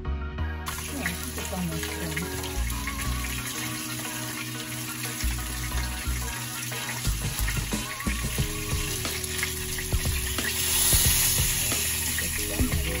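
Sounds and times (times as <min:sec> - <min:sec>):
fish sizzling in hot oil: 0:00.7 - 0:13.0.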